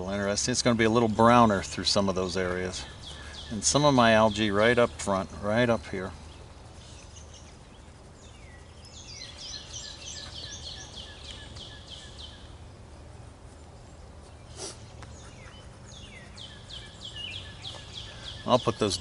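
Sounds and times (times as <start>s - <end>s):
low steady hum: 0.0s - 19.0s
songbird singing: 0.0s - 19.0s.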